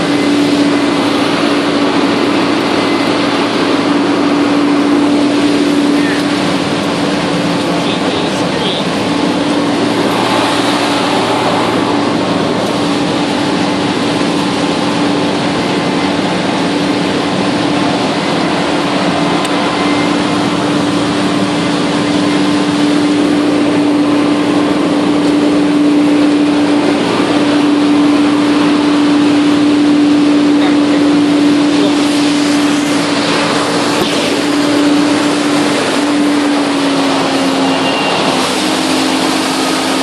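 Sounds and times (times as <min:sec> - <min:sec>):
combine harvester droning: 0:00.0 - 0:40.0.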